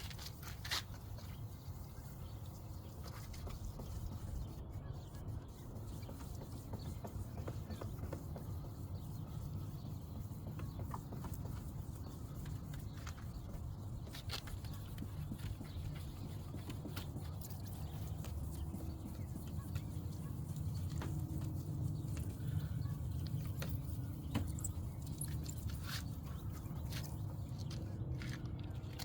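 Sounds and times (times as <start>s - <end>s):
sandpaper rubbing on plastic: 0.0s - 27.7s.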